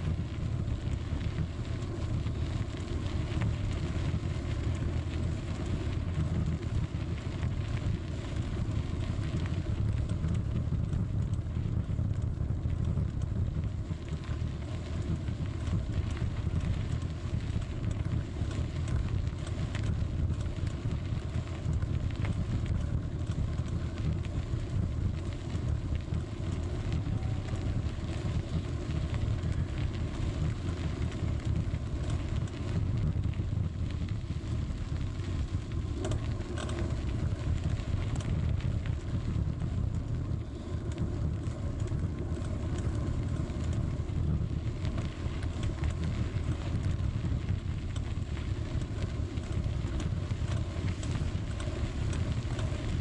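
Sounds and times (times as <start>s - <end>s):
bicycle tyres on gravel: 0.0s - 53.0s
grit ticking under wheels: 0.0s - 53.0s
wind buffeting microphone: 0.0s - 53.0s.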